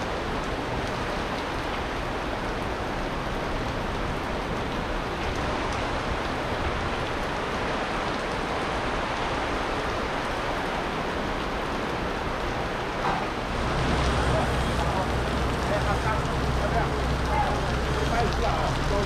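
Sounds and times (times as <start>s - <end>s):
torrential rain: 0.0s - 19.0s.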